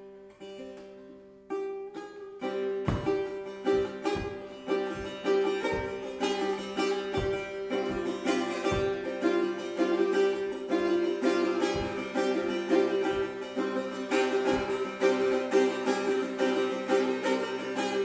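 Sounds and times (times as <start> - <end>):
plucked lute notes: 0.0 - 18.0.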